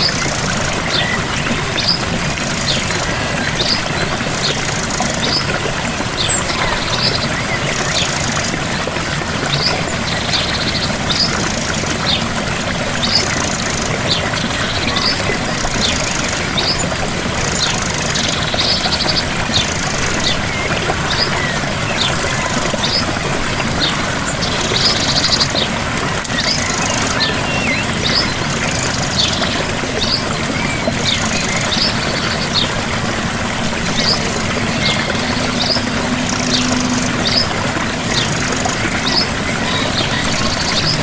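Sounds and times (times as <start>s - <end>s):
birdsong with buzzy trills: 0.0s - 41.0s
small waterfall rushing: 0.0s - 41.0s.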